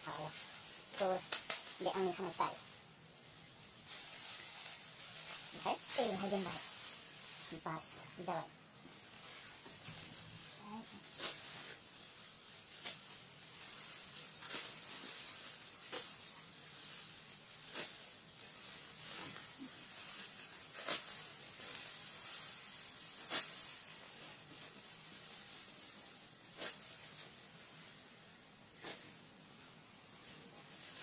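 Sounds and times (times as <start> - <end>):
steady hiss: 0.0 - 31.0
sickle cutting rice stalks: 0.1 - 31.0.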